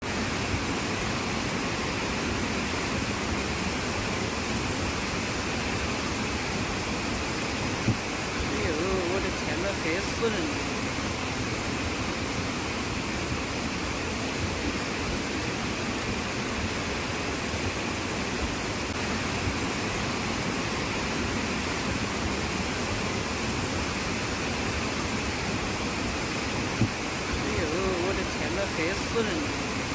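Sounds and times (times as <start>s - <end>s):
heavy rain hissing: 0.0s - 29.9s.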